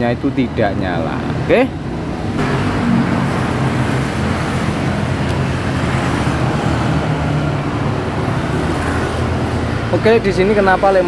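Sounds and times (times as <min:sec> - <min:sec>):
broad traffic rush: 0:00.0 - 0:11.0.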